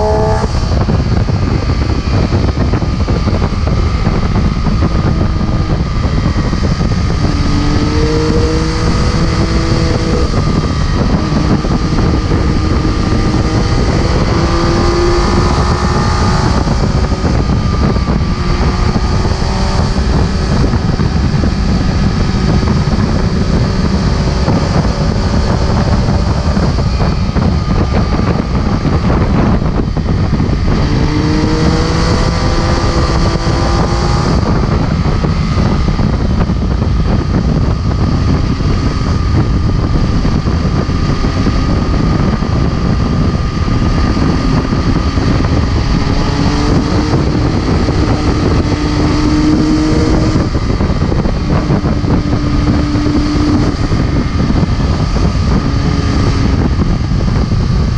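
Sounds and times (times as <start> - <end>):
heavy wind noise: 0.0 - 57.9
motorcycle engine running: 0.0 - 57.9.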